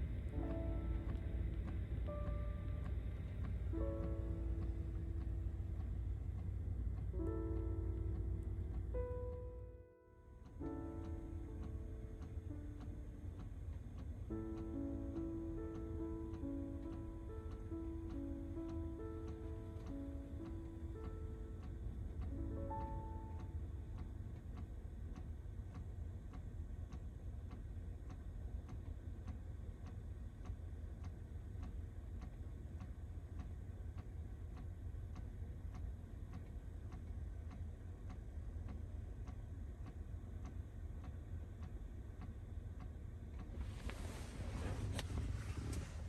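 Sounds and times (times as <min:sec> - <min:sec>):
clock ticking: 0:00.0 - 0:46.0
low steady rumble: 0:00.0 - 0:46.0.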